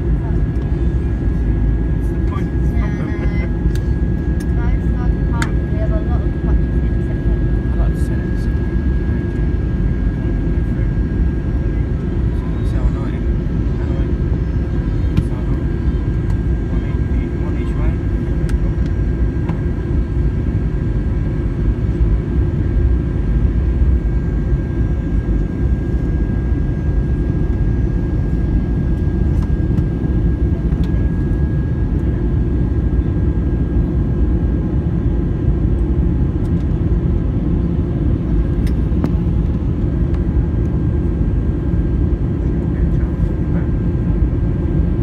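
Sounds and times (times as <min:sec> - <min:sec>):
airliner cabin roar: 0:00.0 - 0:45.0.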